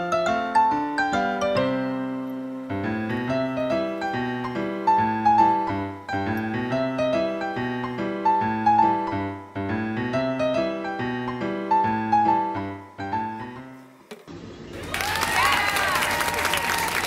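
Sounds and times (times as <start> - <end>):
gentle piano tune: 0.0 - 14.1.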